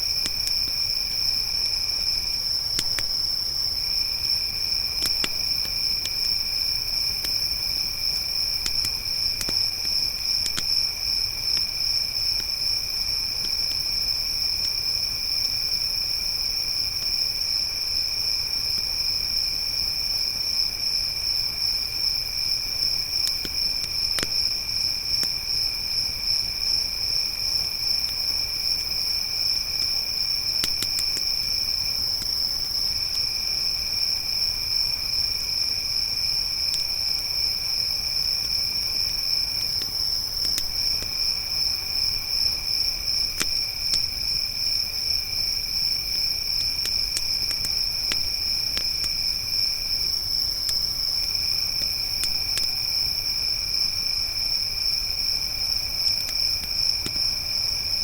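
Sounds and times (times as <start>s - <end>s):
campfire popping and crackling: 0.0s - 15.8s, 21.5s - 27.0s, 27.6s - 33.5s, 36.6s - 53.2s, 54.3s - 58.0s
crickets trilling: 0.0s - 58.0s.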